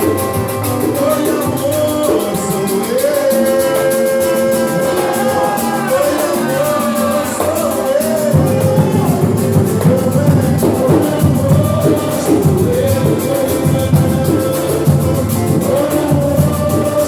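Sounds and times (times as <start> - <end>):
group playing music: 0.0 - 17.0
quick even percussion: 0.0 - 17.0
person singing long held notes: 0.9 - 17.0.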